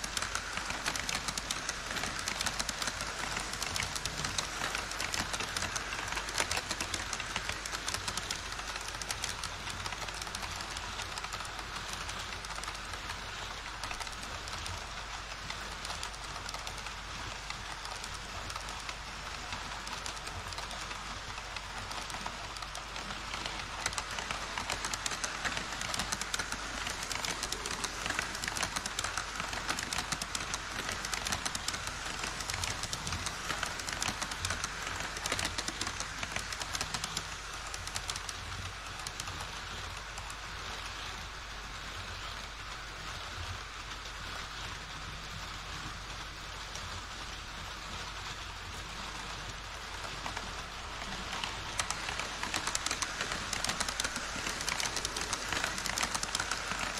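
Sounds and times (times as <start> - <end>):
model trains rumbling: 0.0 - 56.9
wheels clicking over track: 0.0 - 56.9.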